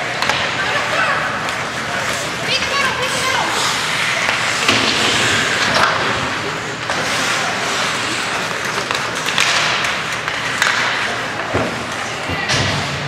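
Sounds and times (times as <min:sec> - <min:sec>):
skate blades scraping on ice: 0:00.0 - 0:12.3
spectators' voices: 0:00.0 - 0:13.0
sticks and puck clacking: 0:00.0 - 0:13.0.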